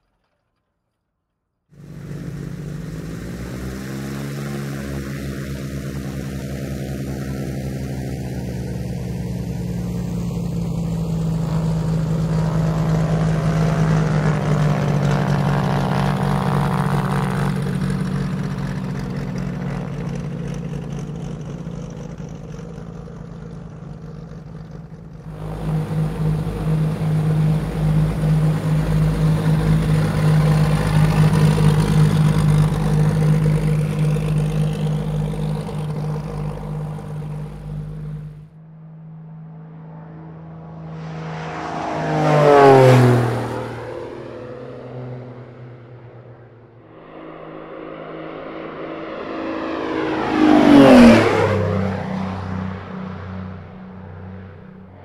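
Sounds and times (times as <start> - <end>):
propeller airplane engine: 1.7 - 55.0.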